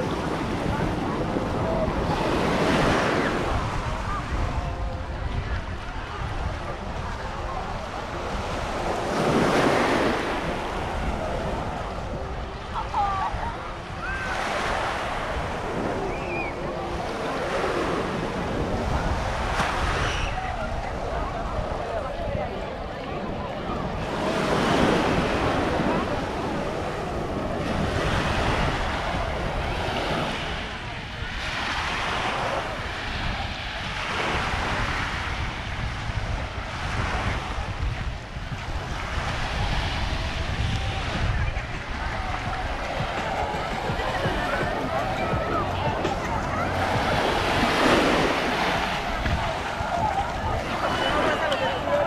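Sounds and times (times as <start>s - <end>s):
waves washing onto beach: 0.0s - 52.0s
wind rumbling on microphone: 0.0s - 52.0s.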